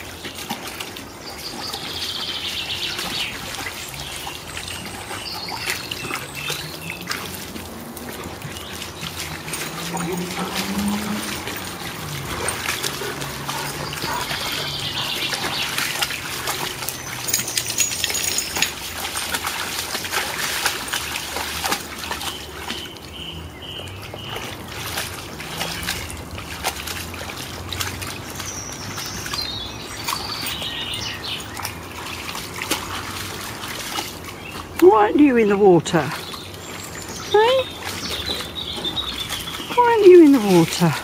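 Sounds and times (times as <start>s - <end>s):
birds chirping: 0.0s - 41.0s
paws splashing in water: 0.0s - 41.0s
stream trickling: 0.0s - 41.0s.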